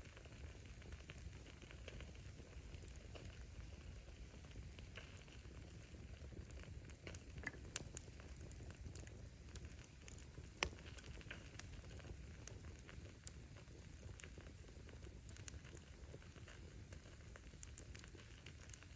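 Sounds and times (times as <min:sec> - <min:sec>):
fire rumbling: 0:00.0 - 0:18.9
firewood crackling and popping: 0:00.0 - 0:18.9.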